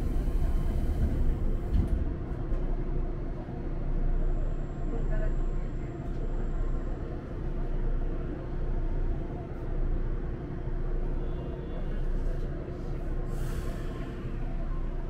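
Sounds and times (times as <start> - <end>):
constant hum: 0.0 - 15.0
train carriage rumble: 0.0 - 15.0.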